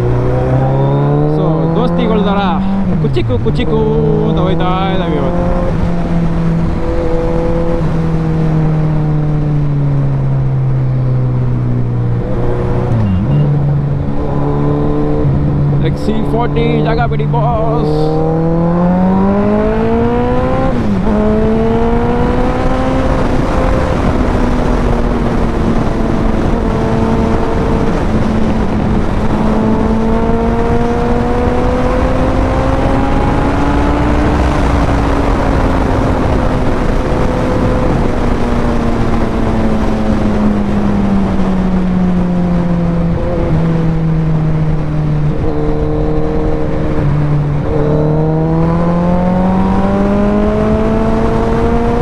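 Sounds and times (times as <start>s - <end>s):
motorcycle engine revving: 0.0s - 52.0s
wind rushing over microphone: 0.0s - 52.0s.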